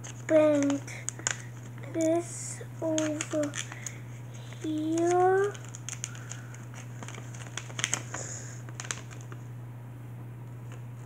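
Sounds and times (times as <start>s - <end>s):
paper crinkling: 0.0s - 9.5s
steady low hum: 0.0s - 11.0s.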